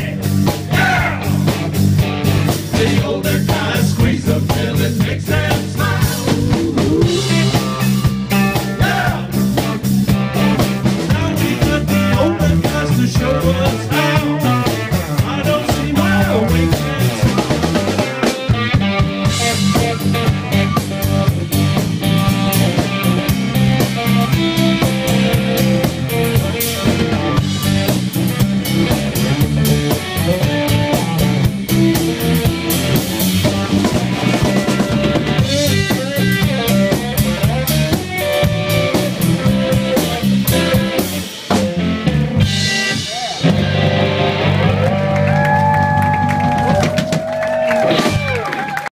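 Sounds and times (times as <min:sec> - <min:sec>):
drum kit beat: 0:00.0 - 0:48.6
electric bass: 0:00.0 - 0:48.9
electric guitar: 0:00.0 - 0:48.9.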